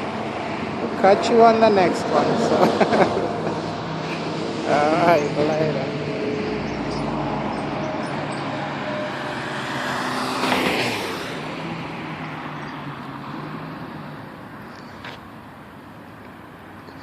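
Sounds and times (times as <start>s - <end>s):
car passing close: 0.0s - 16.9s.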